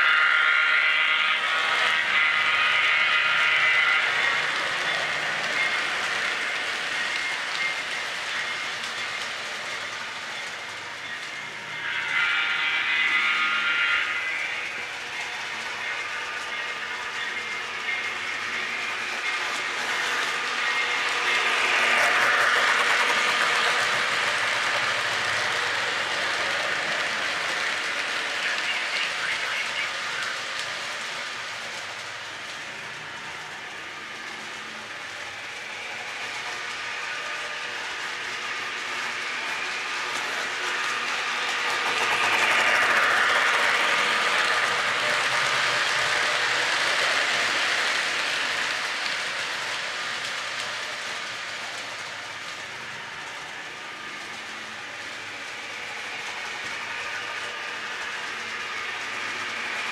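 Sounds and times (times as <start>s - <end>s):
model train whirring on track: 0.0s - 59.9s.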